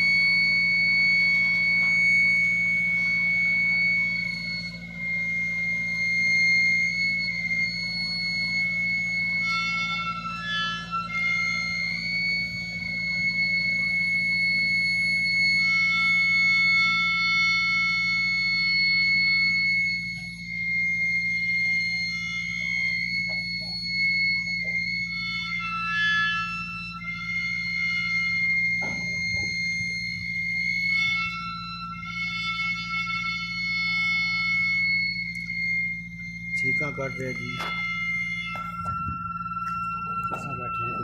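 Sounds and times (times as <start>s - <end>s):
metal mast squealing: 0.0s - 41.0s
motor humming: 0.0s - 41.0s.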